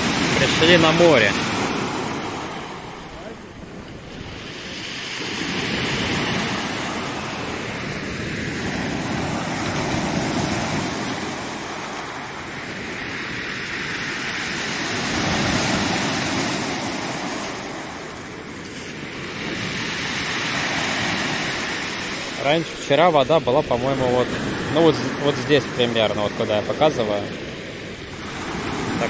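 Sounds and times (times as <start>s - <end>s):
surf breaking on pebble beach: 0.0s - 29.0s.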